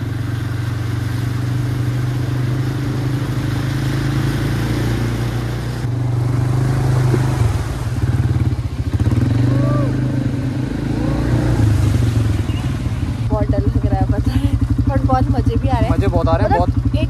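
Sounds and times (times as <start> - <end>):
quad bike engine running: 0.0 - 17.0
water splashing from wheels: 0.0 - 17.0.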